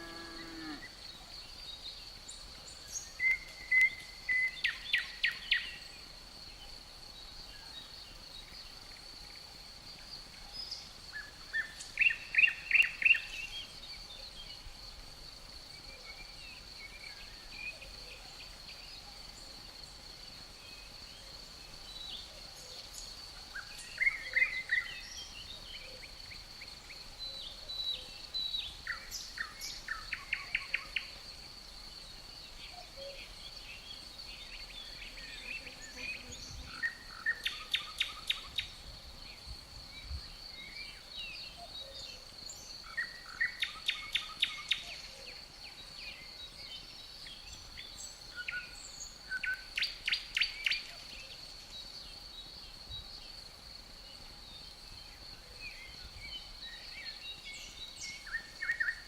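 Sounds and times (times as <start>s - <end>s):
crickets droning: 0.0s - 59.0s.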